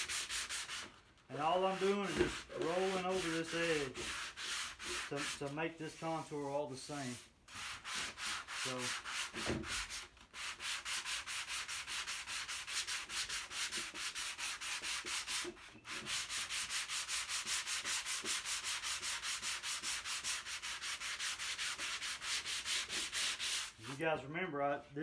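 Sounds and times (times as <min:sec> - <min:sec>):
sandpaper scratching back and forth: 0:00.0 - 0:24.2.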